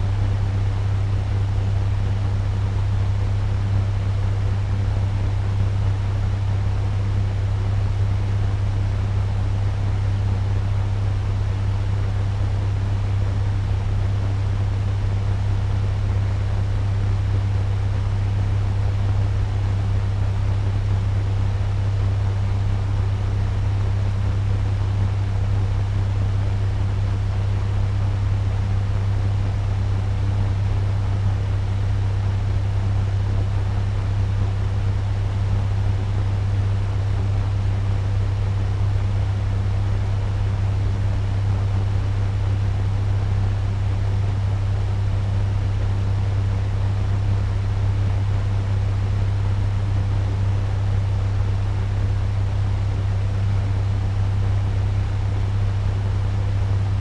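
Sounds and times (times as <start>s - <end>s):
turbo fan running: 0.0s - 57.0s.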